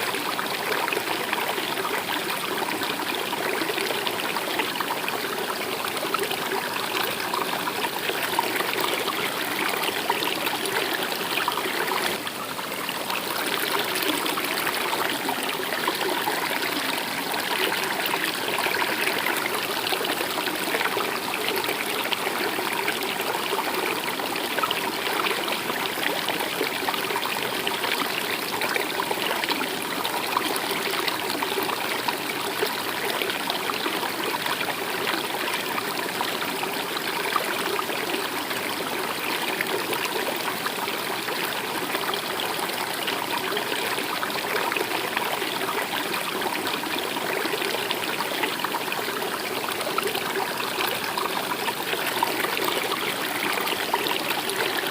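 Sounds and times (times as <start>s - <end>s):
stream water trickling: 0.0s - 54.9s.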